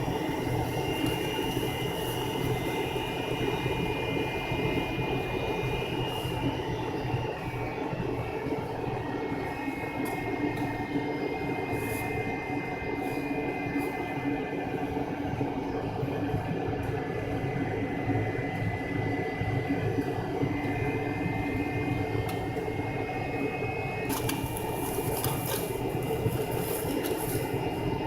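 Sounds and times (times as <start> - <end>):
jet engine rumble and whine: 0.0 - 28.0.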